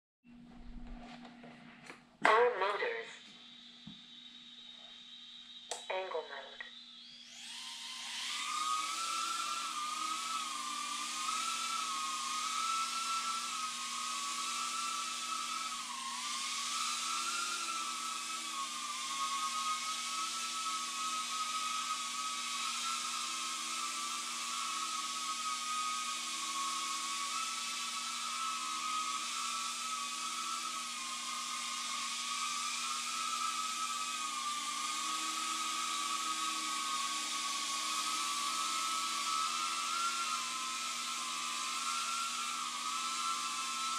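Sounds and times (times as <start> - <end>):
micro drone propellers buzzing: 2.8 - 43.9.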